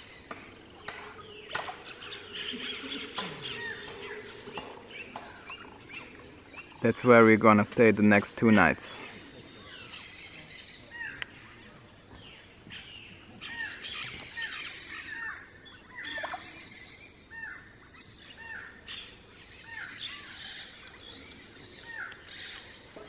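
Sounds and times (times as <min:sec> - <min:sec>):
colony of birds calling: 0:00.0 - 0:23.0.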